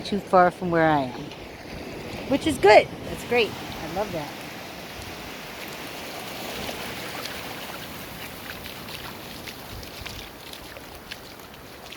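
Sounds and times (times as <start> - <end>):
ocean surf: 0.0 - 9.7
wind noise: 0.0 - 11.8.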